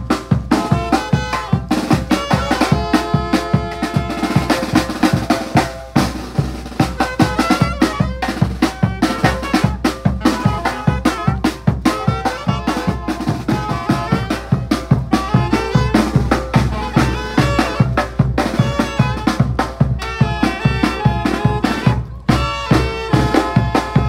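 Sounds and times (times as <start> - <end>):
bass drum march beat: 0.0 - 24.0
saxophones and brass playing tune: 0.0 - 24.0.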